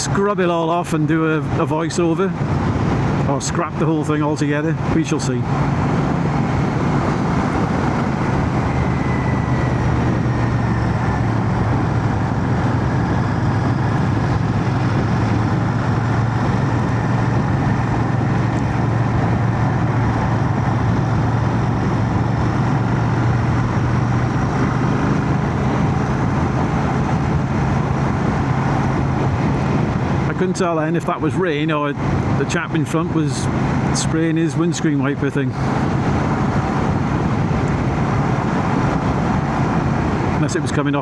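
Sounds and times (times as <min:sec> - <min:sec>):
motorcycle engine cruising: 0:00.0 - 0:41.0
wind and road noise: 0:00.0 - 0:41.0.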